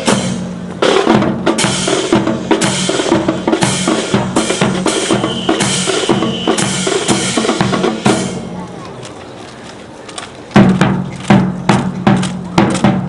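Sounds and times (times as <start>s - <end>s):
drumming with sharp strikes: 0.0s - 8.7s, 10.5s - 13.0s.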